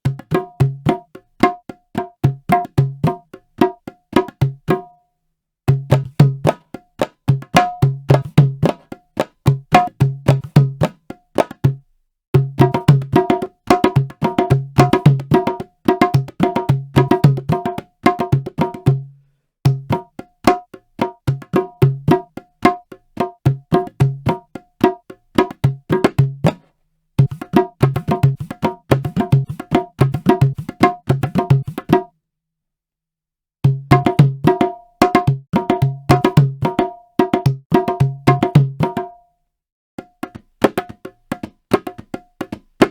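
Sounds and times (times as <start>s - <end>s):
hand drum patterns: 0.0s - 4.9s, 5.7s - 11.8s, 12.4s - 19.1s, 19.7s - 32.1s, 33.6s - 39.3s, 40.0s - 42.9s.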